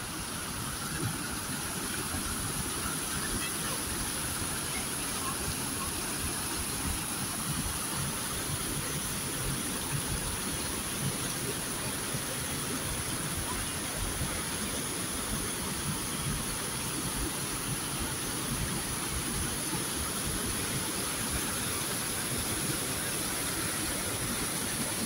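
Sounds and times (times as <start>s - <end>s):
stream rushing over boulders: 0.0s - 25.0s.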